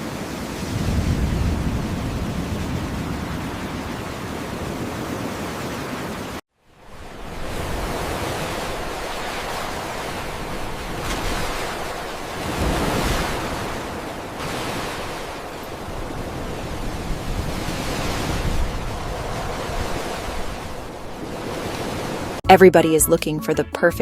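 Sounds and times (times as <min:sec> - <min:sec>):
waves breaking: 0:00.0 - 0:22.4.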